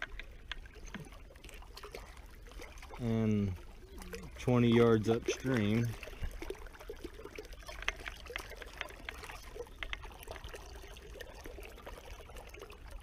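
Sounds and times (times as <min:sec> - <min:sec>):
river water trickling: 0:00.0 - 0:13.0
small splashes and drips: 0:00.0 - 0:13.0.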